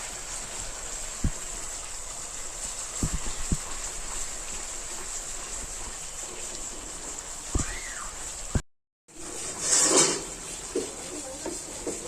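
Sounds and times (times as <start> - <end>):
mixture hissing in a pan: 0.0 - 12.0.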